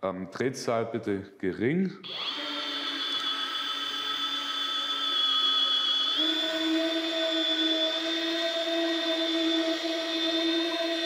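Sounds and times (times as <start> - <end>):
polisher motor whine: 2.0 - 11.0.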